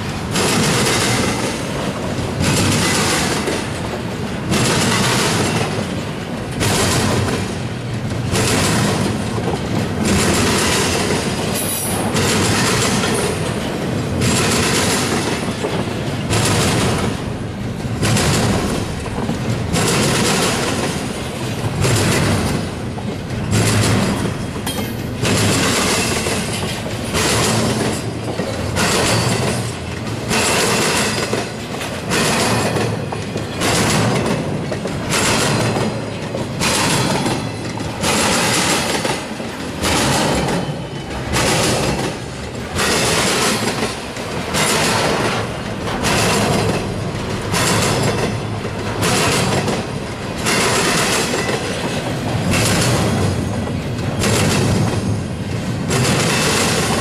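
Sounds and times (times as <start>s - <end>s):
freight train wheels clickety-clack: 0.0s - 57.0s.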